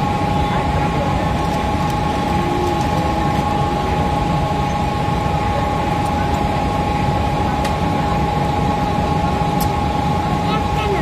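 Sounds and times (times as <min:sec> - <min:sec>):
constant high whine: 0:00.0 - 0:11.0
electric train hum: 0:00.0 - 0:11.0.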